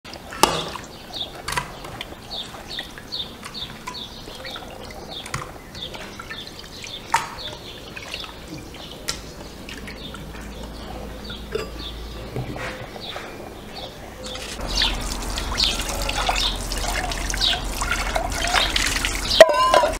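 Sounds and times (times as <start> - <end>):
water splashing and dripping: 0.1 - 11.5, 14.2 - 19.9.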